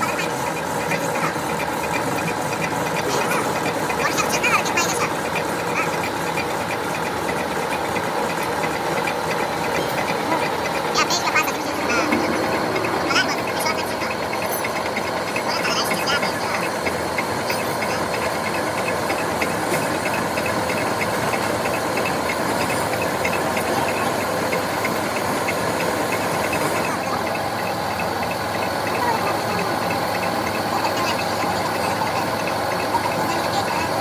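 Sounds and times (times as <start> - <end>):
rapid even ticking: 0.0 - 34.0
workshop machinery hissing: 0.0 - 34.0.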